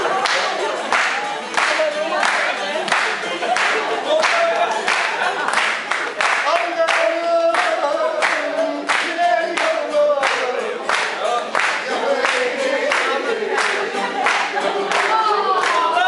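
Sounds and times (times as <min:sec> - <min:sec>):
group singing folk song: 0:00.0 - 0:16.0
rhythmic handclaps: 0:00.0 - 0:16.0.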